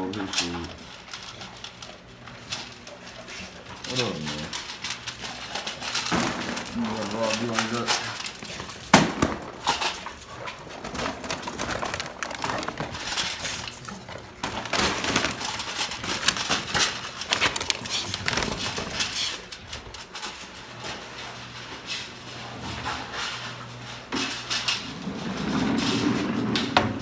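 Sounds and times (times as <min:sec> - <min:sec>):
dogs eating and jostling: 0:00.0 - 0:27.0.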